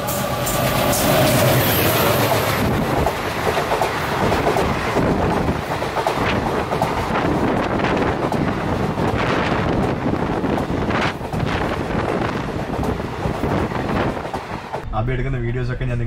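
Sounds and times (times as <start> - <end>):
clickety-clack over rail joints: 0.0 - 14.8
train wheels rumbling on rails: 0.0 - 14.9.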